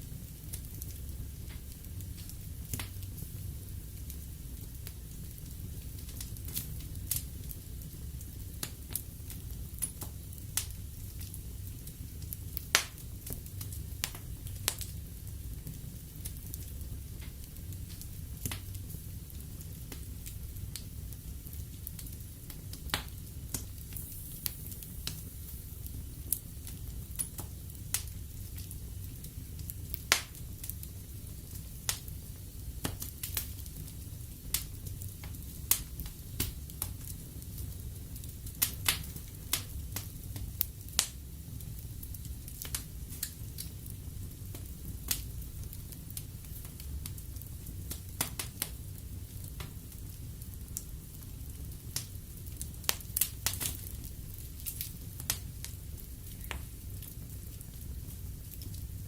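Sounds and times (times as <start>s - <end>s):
low rumble and hiss of flames: 0.0s - 59.0s
wood fire crackling and popping: 0.0s - 59.0s.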